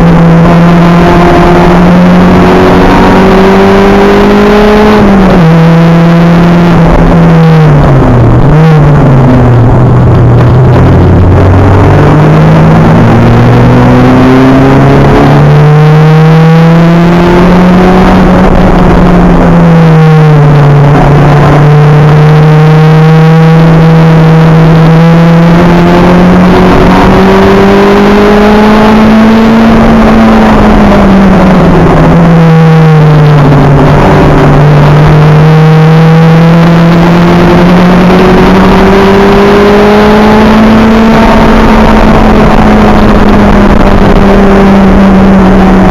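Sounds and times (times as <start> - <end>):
race car engine revving: 0.0 - 45.9.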